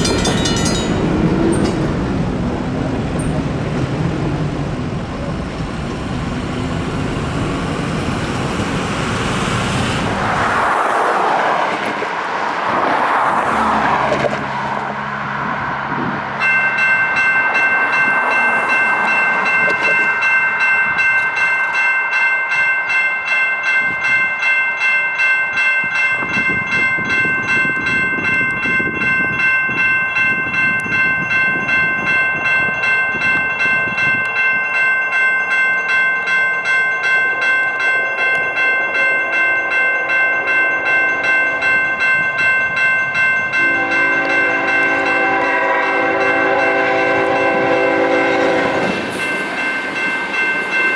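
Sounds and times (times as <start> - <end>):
railroad crossing warning bell: 0.0 - 12.0, 12.7 - 50.9
train rumbling past: 0.0 - 50.9.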